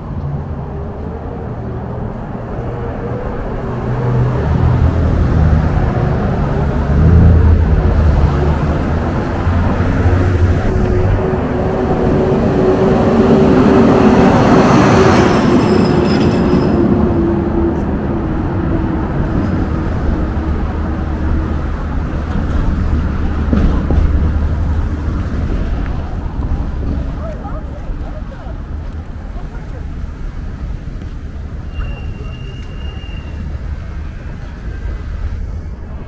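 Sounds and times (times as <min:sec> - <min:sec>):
steady engine hum: 0:00.0 - 0:15.6, 0:16.9 - 0:32.3
heavy vehicle passing: 0:00.0 - 0:31.7.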